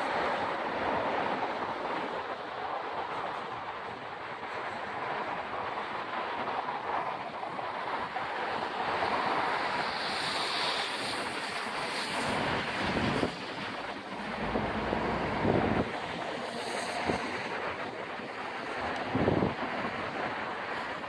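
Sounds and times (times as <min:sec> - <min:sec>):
distant rail traffic: 0:00.0 - 0:21.0
wind buffeting microphone: 0:00.0 - 0:21.0
wind rushing: 0:00.0 - 0:21.0.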